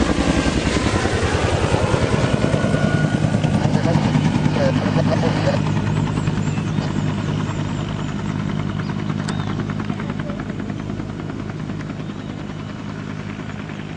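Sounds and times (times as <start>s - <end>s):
helicopter rotor beating: 0.0s - 13.9s.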